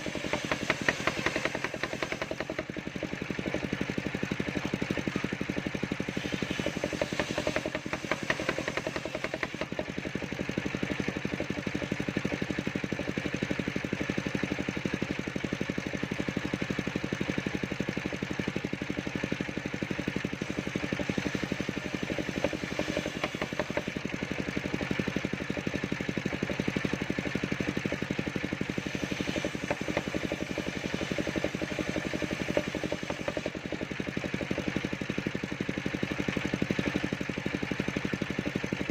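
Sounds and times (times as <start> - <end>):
sawmill engine chugging: 0.0 - 38.9.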